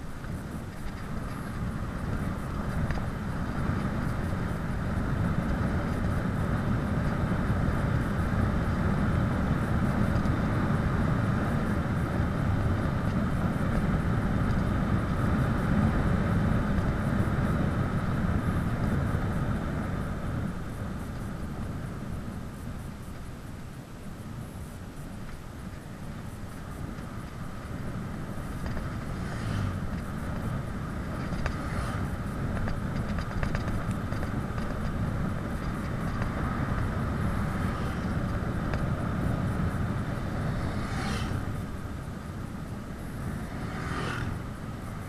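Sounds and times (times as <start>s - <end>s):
bicycle tyre noise: 0.0s - 45.0s
wind rushing over microphone: 0.0s - 45.0s.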